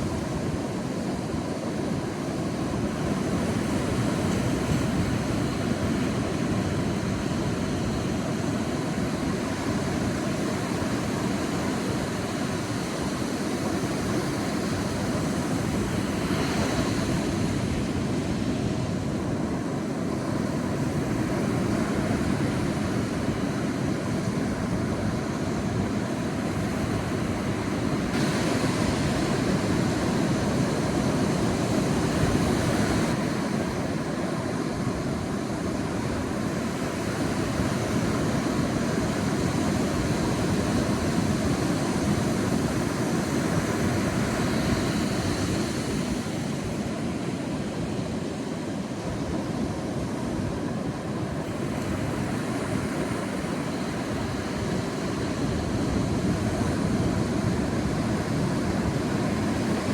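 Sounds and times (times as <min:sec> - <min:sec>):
surf washing on beach: 0:00.0 - 0:59.9.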